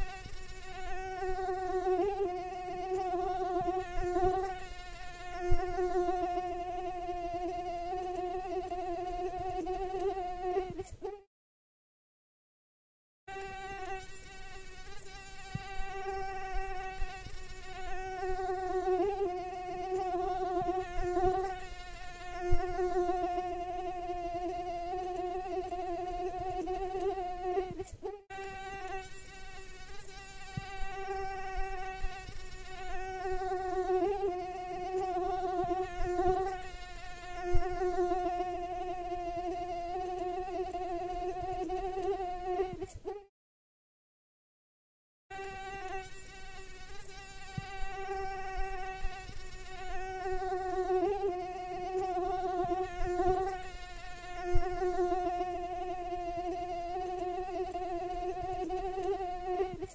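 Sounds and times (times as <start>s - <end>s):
mosquito wingbeat whine: 0.0s - 11.2s, 13.3s - 43.3s, 45.4s - 59.9s.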